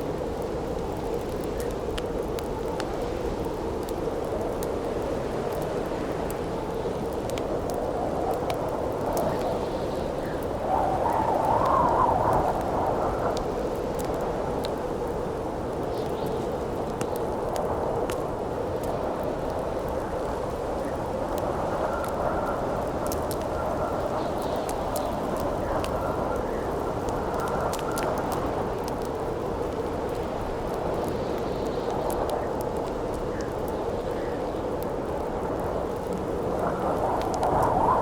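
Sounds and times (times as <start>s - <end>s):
campfire crackling: 0.0s - 38.0s
howling wind: 0.0s - 38.0s.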